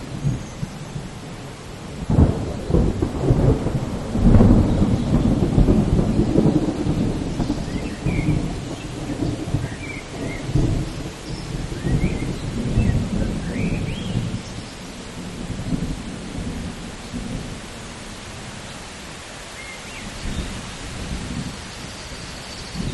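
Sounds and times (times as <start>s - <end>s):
thunder rumbling: 0.0s - 18.6s, 20.2s - 22.9s
steady rain: 0.0s - 22.9s.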